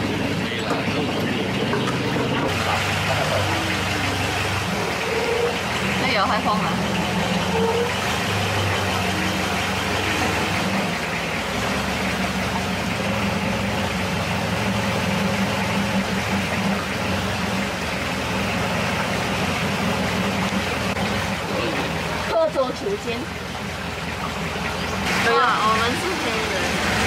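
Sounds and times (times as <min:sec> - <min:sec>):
motorboat engine droning: 0:00.0 - 0:27.0.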